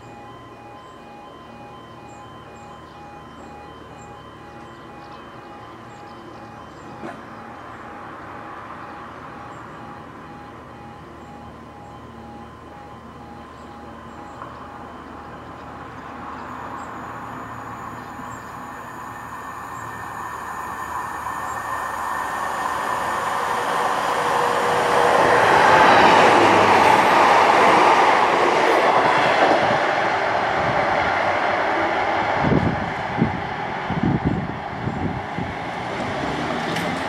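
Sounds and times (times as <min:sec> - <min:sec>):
diesel train engine: 0:00.0 - 0:37.0
train wheels on rails: 0:04.4 - 0:37.0.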